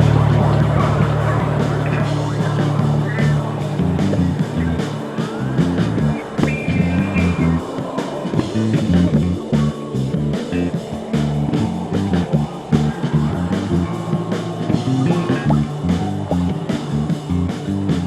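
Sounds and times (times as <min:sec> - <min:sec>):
distorted bass line: 0:00.0 - 0:07.7, 0:08.4 - 0:18.0
drum machine beat: 0:00.0 - 0:18.0
gliding delay tone: 0:00.0 - 0:18.0.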